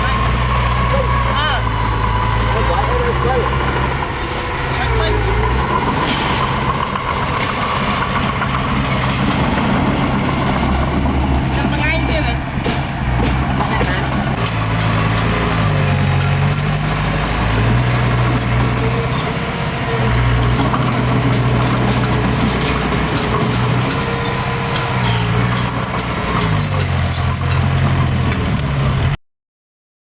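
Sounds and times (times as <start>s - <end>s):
diesel engine running under load: 0.0s - 29.2s.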